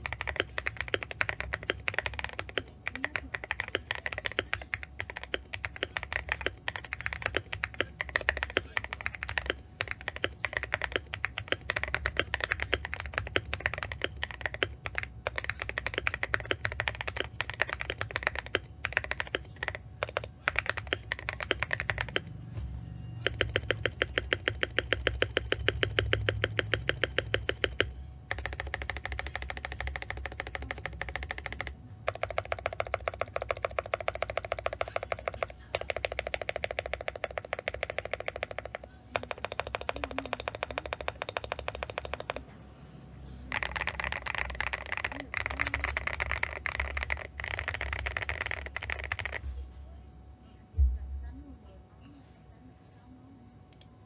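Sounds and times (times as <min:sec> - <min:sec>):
mechanical keyboard typing: 0:00.0 - 0:22.3, 0:23.2 - 0:42.5, 0:43.5 - 0:49.4.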